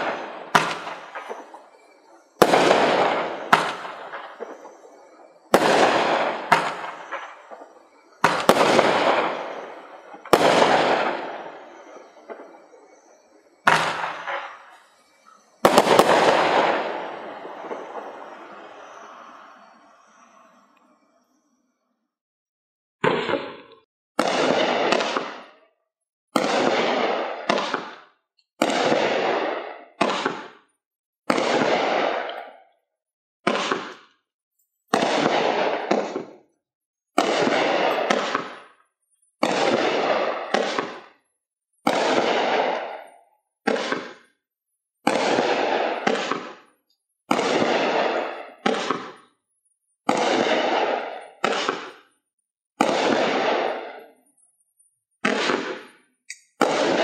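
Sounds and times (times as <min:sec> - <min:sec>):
fireworks cake bangs: 0:00.0 - 0:13.1, 0:13.7 - 0:18.5, 0:23.0 - 0:25.6, 0:26.3 - 0:32.7, 0:33.4 - 0:34.2, 0:34.9 - 0:38.8, 0:39.4 - 0:44.4, 0:45.0 - 0:49.4, 0:50.0 - 0:54.3, 0:55.2 - 0:57.0.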